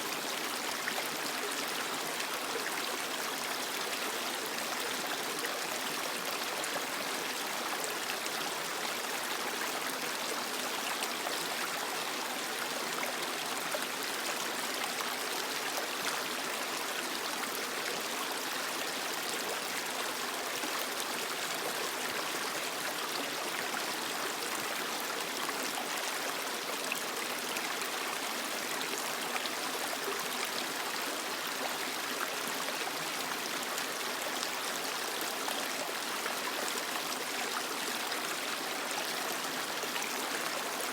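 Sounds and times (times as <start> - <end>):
creek water flowing over rocks: 0.0 - 40.9.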